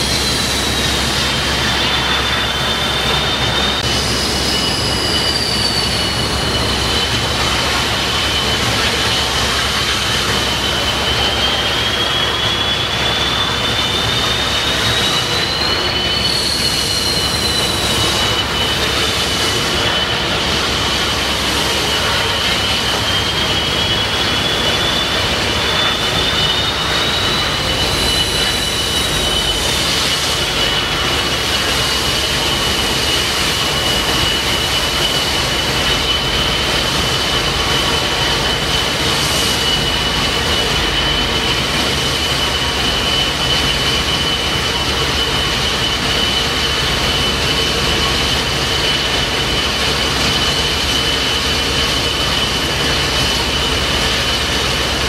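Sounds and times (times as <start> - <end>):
high turbine whine: 0.0 - 55.0
second whine climbing in pitch: 0.0 - 55.0
steady rushing noise: 0.0 - 55.0.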